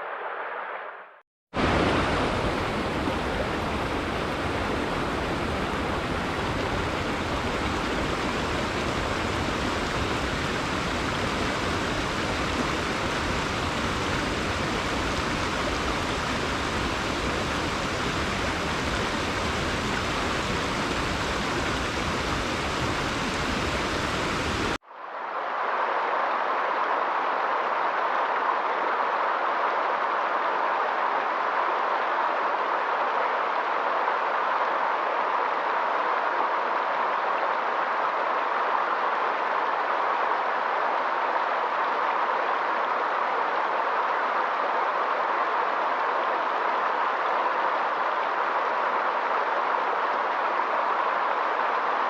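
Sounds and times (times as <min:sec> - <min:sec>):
dull soft water noise: 0:01.6 - 0:52.0
rushing water: 0:01.6 - 0:52.0.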